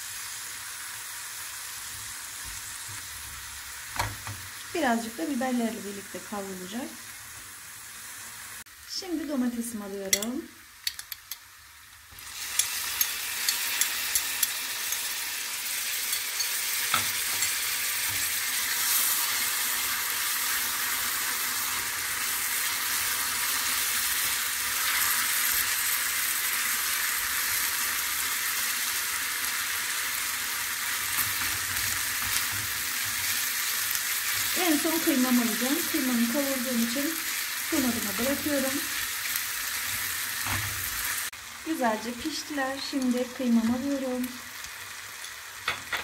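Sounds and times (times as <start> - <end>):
vegetables sizzling in oil: 0.0 - 46.0.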